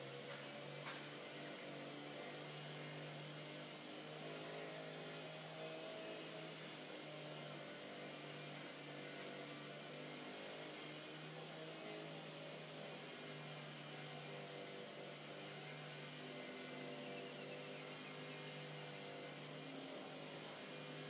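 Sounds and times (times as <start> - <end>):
distant lawn mower engine: 0.0 - 21.0.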